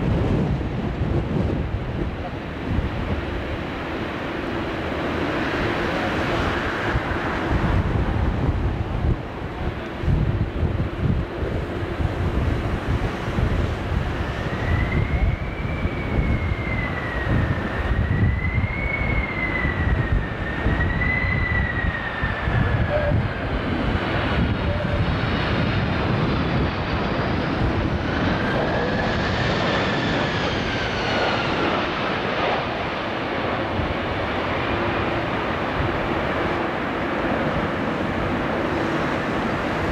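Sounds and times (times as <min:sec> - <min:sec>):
jet engine whine: 0:00.0 - 0:39.9
wind rumbling on microphone: 0:00.0 - 0:39.9.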